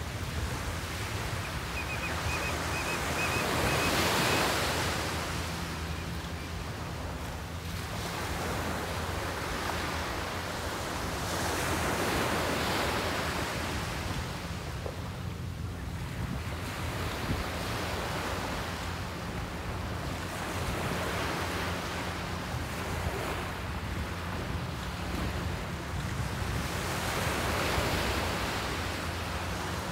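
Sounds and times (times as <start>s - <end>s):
waves breaking on sandy beach: 0.0s - 29.9s.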